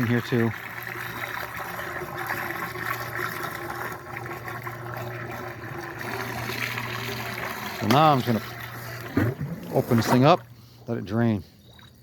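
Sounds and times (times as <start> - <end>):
water trickling and sloshing: 0.0 - 12.0.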